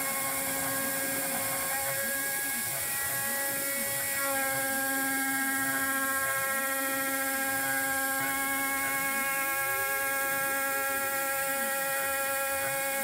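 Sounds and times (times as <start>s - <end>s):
milling machine spindle whining: 0.0s - 13.0s.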